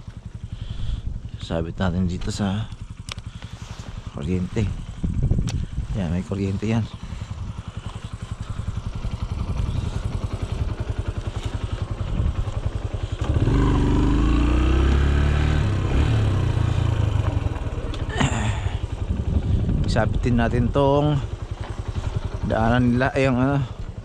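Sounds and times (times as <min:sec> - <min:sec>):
small motorbike engine running: 0:00.0 - 0:24.0.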